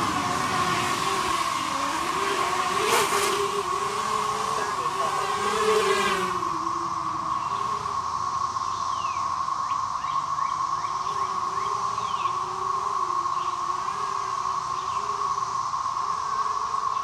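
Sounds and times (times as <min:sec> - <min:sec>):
birds chirping: 0:00.0 - 0:15.3
quadcopter motors whining: 0:00.0 - 0:17.0.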